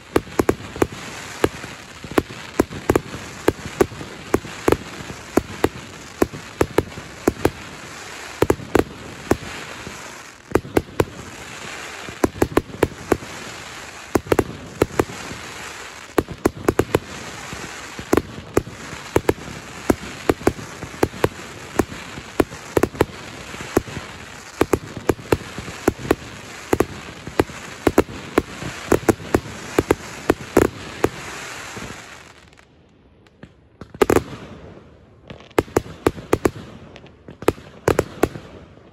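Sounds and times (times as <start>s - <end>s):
firework rockets banging: 0.0s - 32.4s
fireworks hissing rush: 0.0s - 32.6s.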